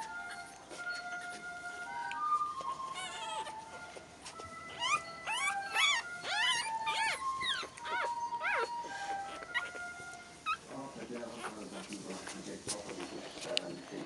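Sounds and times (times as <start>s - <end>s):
puppy squeaking and whimpering: 0.0s - 14.0s.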